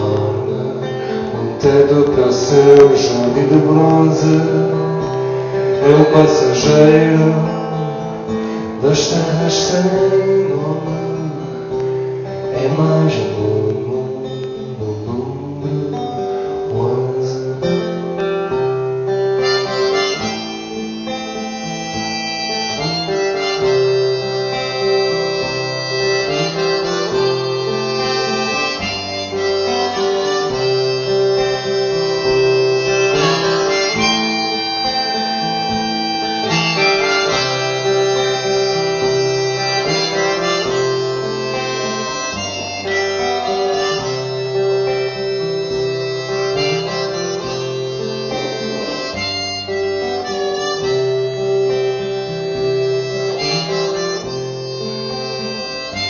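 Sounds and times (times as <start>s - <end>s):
guitar chords: 0.0s - 56.0s
harmonica wailing melody: 0.0s - 56.0s.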